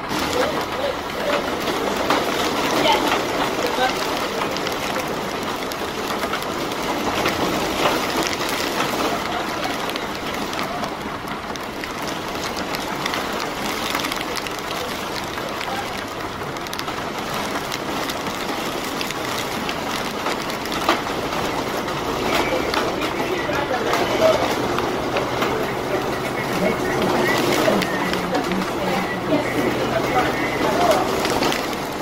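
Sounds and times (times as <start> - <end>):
city traffic: 0.0 - 32.0
rain falling on an umbrella: 0.0 - 32.0.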